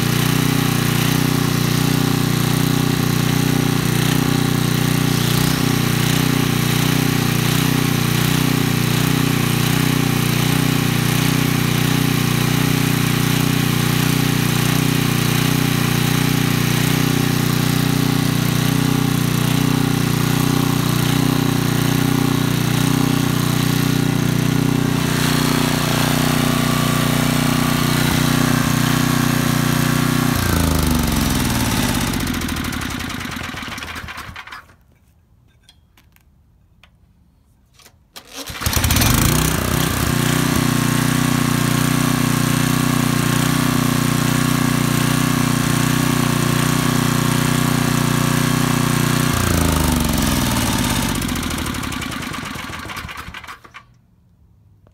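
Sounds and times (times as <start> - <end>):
generator engine running: 0.0 - 34.6, 38.5 - 53.8.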